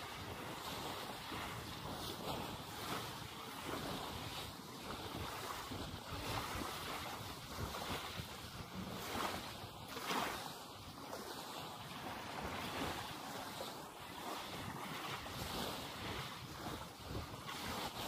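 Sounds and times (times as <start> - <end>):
wind buffeting microphone: 0.0 - 11.1, 12.0 - 18.0
waves washing on shore: 0.0 - 18.0.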